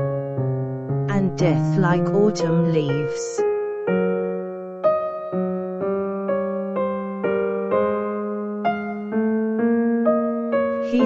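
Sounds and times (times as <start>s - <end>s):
gentle solo piano piece: 0.0s - 11.0s.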